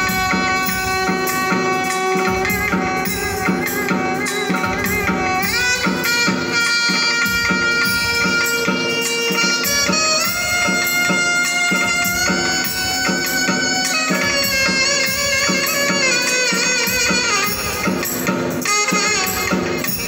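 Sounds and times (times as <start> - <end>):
hand drum rhythm: 0.0 - 20.0
saxophone melody: 0.0 - 20.0.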